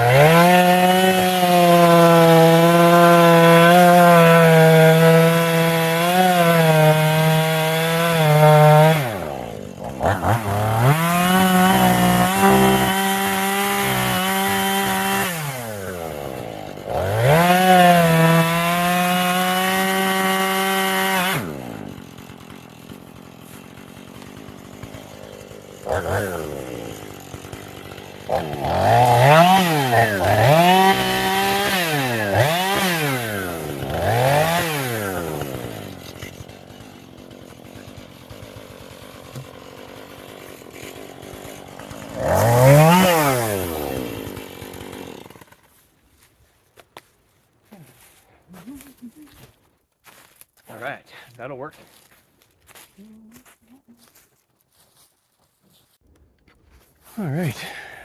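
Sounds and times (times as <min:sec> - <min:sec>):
chainsaw cutting log: 0:00.0 - 0:47.1, 0:57.2 - 0:58.0.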